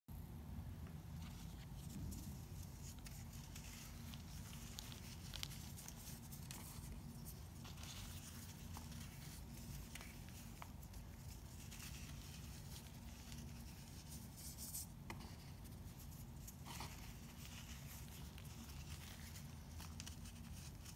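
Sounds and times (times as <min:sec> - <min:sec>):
steady low hum: 0:00.1 - 0:20.9
baking soda crunching and crumbling: 0:02.0 - 0:20.9.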